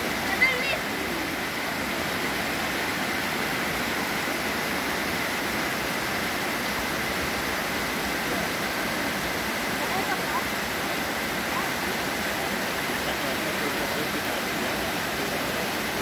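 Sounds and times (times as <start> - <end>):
stream and waterfall over rocks: 0.0 - 16.0.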